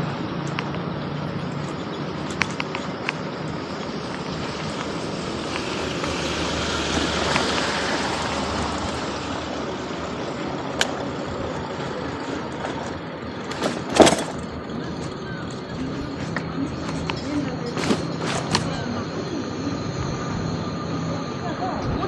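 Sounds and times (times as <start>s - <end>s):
vehicle passing: 0.0s - 20.7s.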